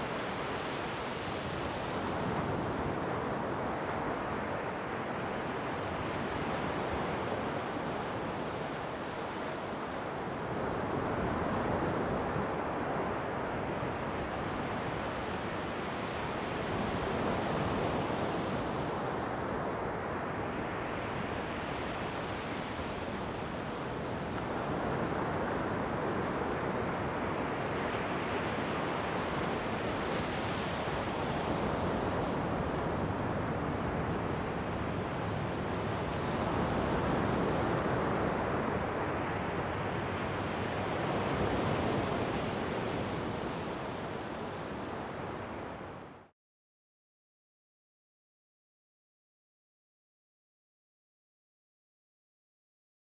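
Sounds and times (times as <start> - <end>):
waves breaking and washing in: 0.0 - 46.3.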